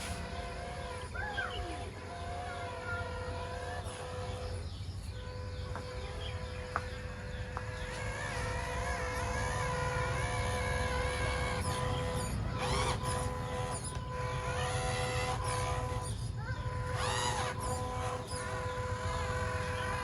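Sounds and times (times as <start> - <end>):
higher wavering whine: 0.0 - 20.0
small electric motors whining: 0.0 - 20.0.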